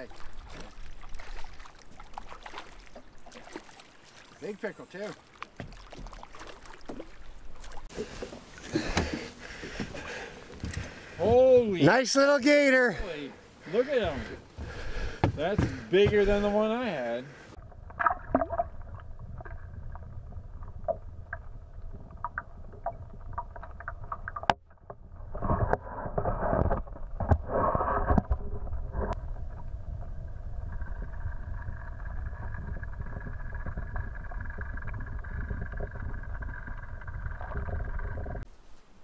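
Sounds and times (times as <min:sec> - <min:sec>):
water noise: 0:00.0 - 0:39.0.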